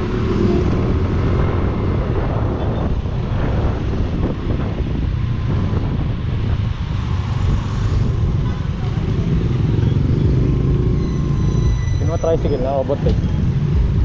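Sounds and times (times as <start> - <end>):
wind buffeting microphone: 0.0 - 11.9
road noise: 0.0 - 14.0.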